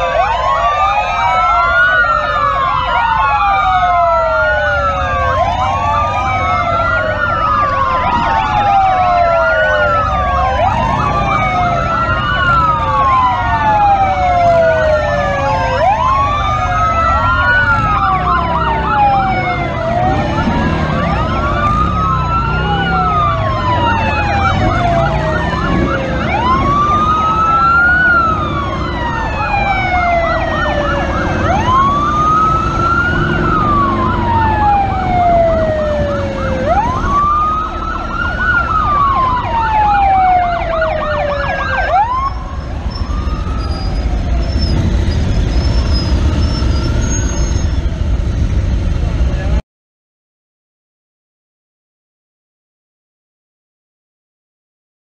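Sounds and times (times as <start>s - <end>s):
siren yelping: 0.0s - 48.4s
motorcycle engines rumbling: 0.0s - 49.6s
police sirens wailing: 0.0s - 49.6s.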